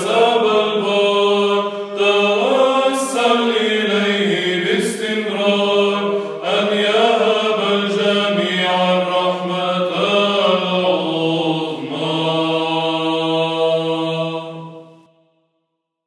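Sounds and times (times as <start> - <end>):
voices chanting: 0.0 - 14.9
held vocal drone: 0.0 - 15.1.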